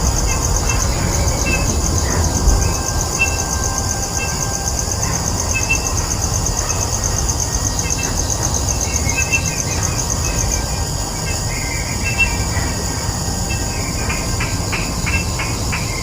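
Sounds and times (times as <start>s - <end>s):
insect trilling: 0.0s - 16.0s.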